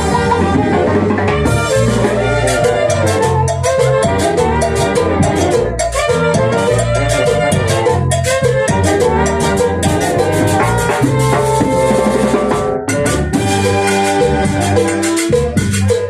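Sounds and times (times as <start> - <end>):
dance band melody instruments: 0.0 - 16.0
drums and percussion beat: 0.0 - 16.0.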